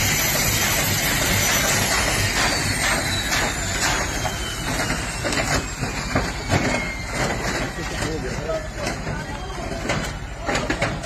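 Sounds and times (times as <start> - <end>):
helicopter rotor beat: 0.0 - 11.0
helicopter turbine whine: 0.0 - 11.0.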